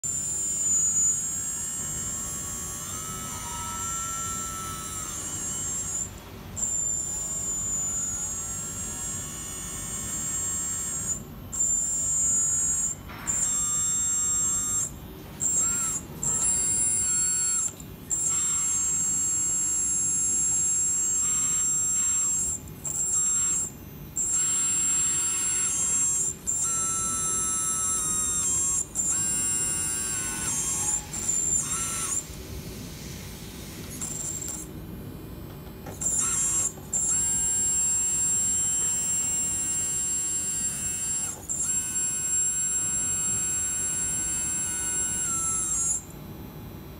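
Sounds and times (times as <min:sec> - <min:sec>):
electric pump whining: 0:00.0 - 0:34.8, 0:35.8 - 0:46.1.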